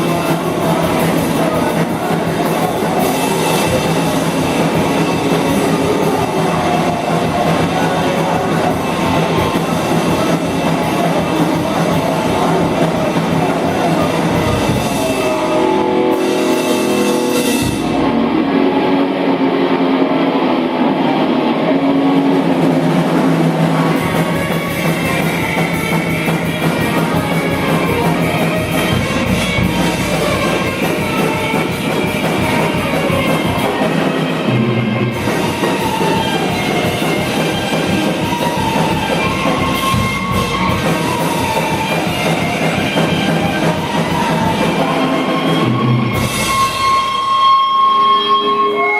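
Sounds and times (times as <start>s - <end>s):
cymbals: 0.0s - 48.9s
heavy rock band playing: 0.0s - 48.9s.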